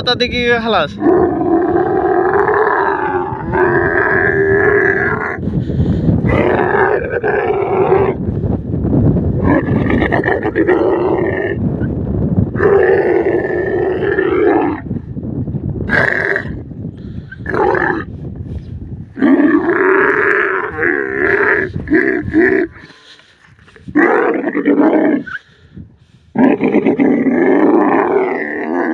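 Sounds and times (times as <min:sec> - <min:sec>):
camels bellowing: 0:00.9 - 0:05.6, 0:06.2 - 0:08.3, 0:09.3 - 0:11.9, 0:12.5 - 0:15.0, 0:15.8 - 0:18.2, 0:19.1 - 0:25.5, 0:26.3 - 0:28.9.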